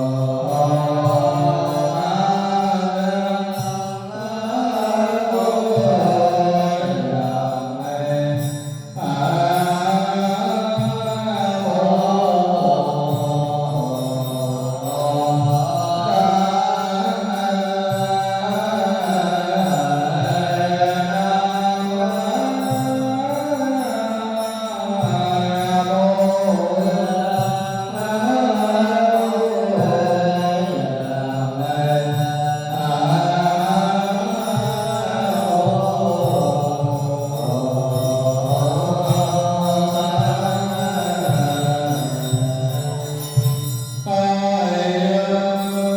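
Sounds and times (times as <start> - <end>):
melodic sung chant: 0.0 - 45.9.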